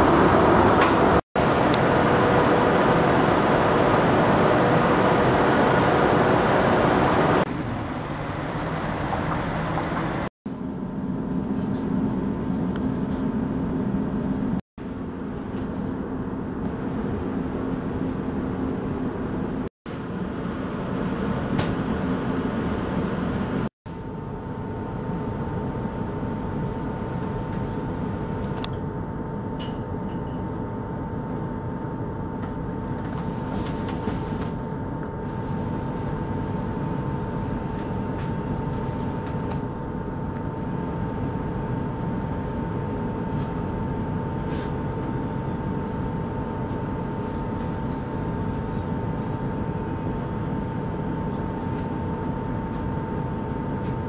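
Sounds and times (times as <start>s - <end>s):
train carriage interior hum: 0.0s - 54.0s.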